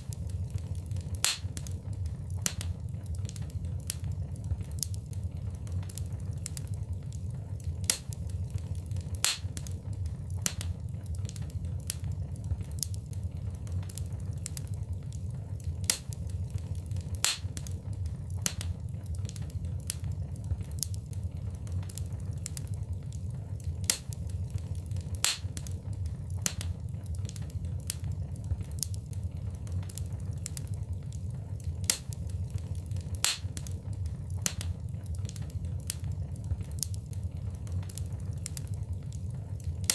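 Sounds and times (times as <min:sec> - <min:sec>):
flames rumbling in fireplace: 0:00.0 - 0:39.9
wood fire crackling and popping: 0:00.0 - 0:39.9.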